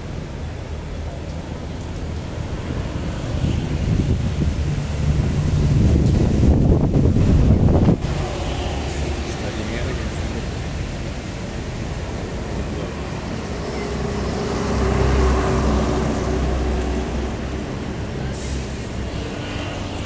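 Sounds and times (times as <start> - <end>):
bus engine rumbling past: 0.0 - 20.0
street traffic: 0.0 - 20.0.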